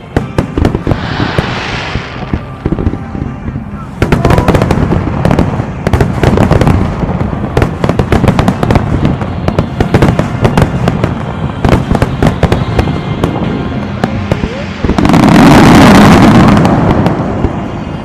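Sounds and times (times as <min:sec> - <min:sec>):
continuous low rumble: 0:00.0 - 0:18.0
fireworks cracks and booms: 0:00.0 - 0:18.0.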